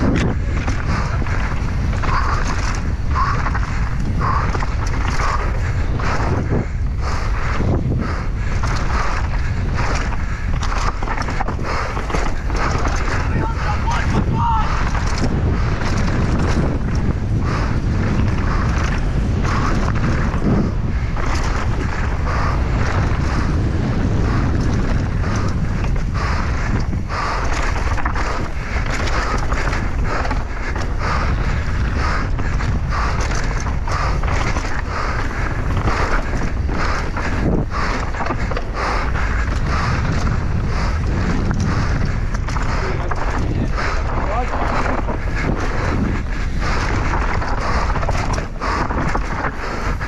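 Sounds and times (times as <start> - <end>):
bike tyres clattering on rough ground: 0.0 - 50.0
wind buffeting microphone: 0.0 - 50.0.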